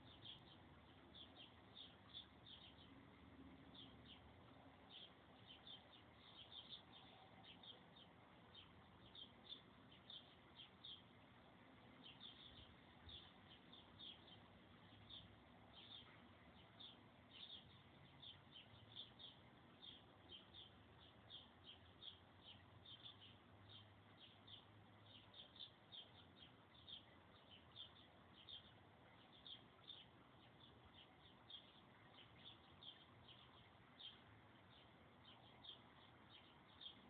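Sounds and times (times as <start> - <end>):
faint bird chirping: 0.0 - 37.0.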